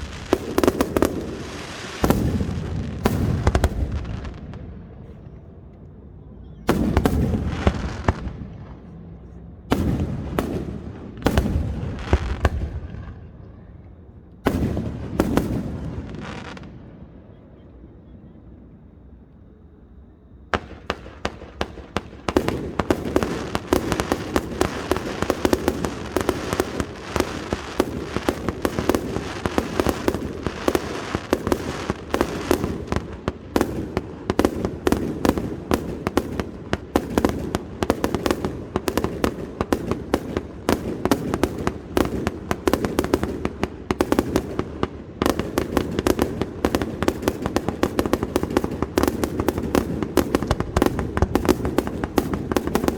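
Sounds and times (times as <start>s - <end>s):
fireworks bangs and crackles: 0.0s - 5.8s, 6.5s - 17.7s, 20.5s - 52.9s.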